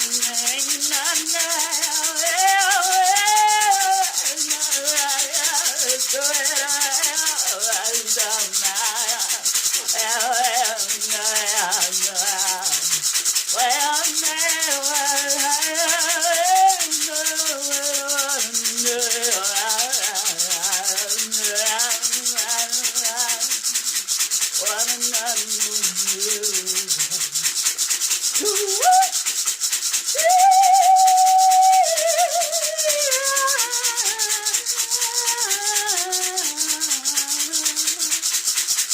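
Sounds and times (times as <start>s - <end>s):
woman singing wordless lines: 0.0s - 27.5s, 28.3s - 29.2s, 30.1s - 38.4s
shaker rattling: 0.0s - 38.9s.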